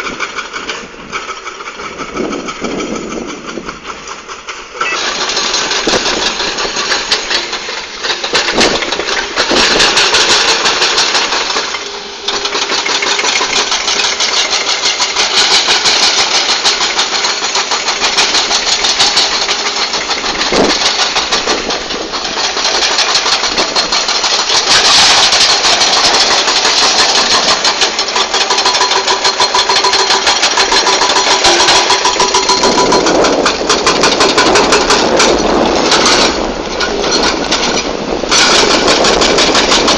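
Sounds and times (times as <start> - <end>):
diesel engine knocking under load: 0.0 - 39.9.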